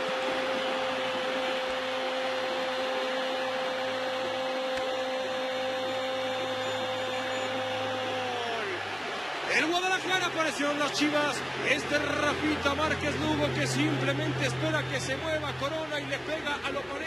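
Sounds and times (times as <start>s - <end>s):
stadium crowd cheering: 0.0s - 17.0s.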